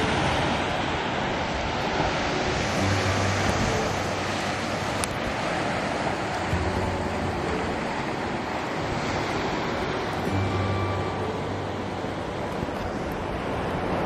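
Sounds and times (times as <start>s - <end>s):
waves washing onto pebble beach: 0.0s - 14.0s
wind rumbling on microphone: 0.0s - 14.0s.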